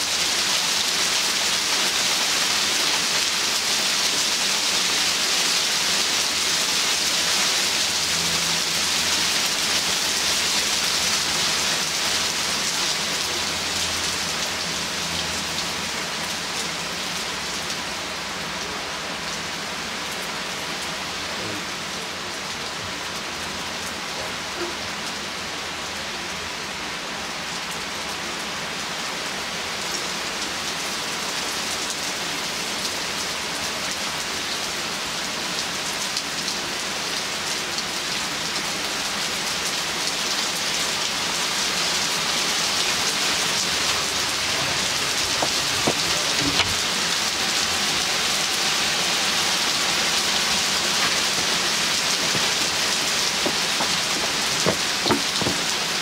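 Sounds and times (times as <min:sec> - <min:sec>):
rain and hail falling: 0:00.0 - 0:56.0.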